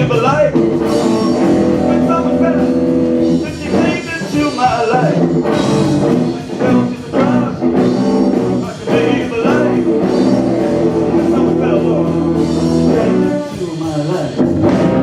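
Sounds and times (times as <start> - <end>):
live band playing blues-rock: 0.0 - 15.0
person singing: 0.0 - 15.0.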